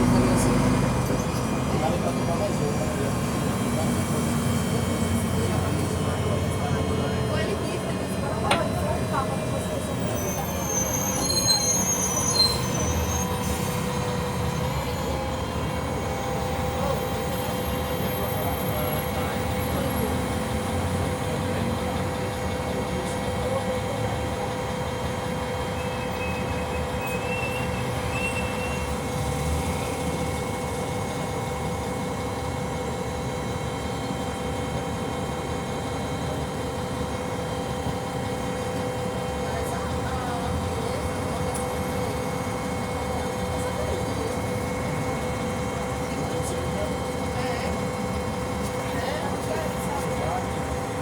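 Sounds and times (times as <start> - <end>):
diesel bus engine rumble: 0.0 - 51.0.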